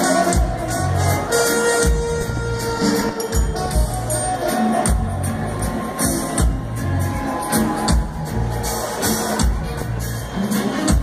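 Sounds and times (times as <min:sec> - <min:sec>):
live reggae rock band: 0:00.0 - 0:11.0.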